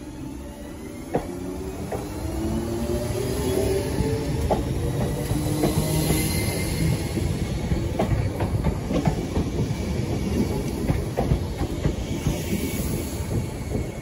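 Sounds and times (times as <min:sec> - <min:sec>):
train carriages rumbling: 0:01.1 - 0:14.0.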